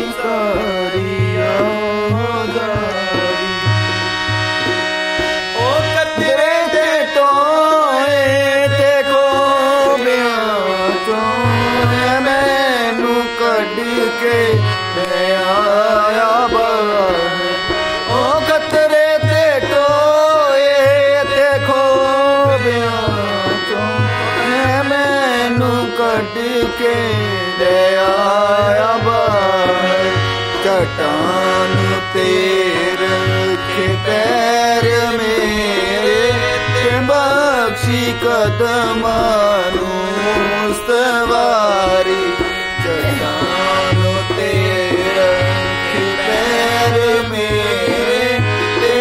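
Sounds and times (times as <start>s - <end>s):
harmonium held reeds: 0.0s - 49.0s
man singing: 0.0s - 49.0s.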